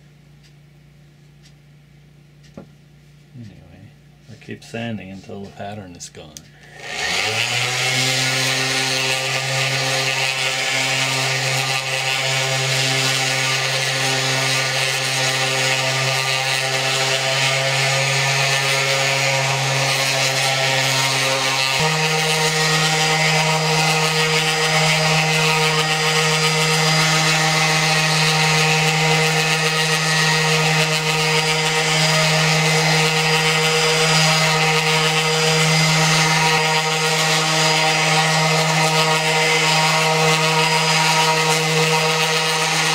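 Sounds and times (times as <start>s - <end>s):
orbital sander on wood: 4.3s - 42.9s.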